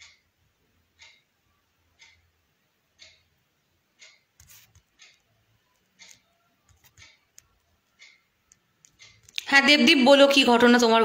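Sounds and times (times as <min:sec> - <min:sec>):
faint even ticking: 0:00.0 - 0:09.4.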